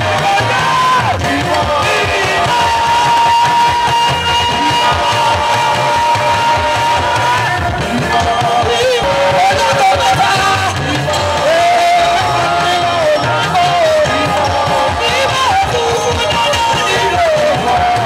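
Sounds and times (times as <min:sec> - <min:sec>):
drum kit: 0:00.0 - 0:18.0
live gospel band: 0:00.0 - 0:18.0.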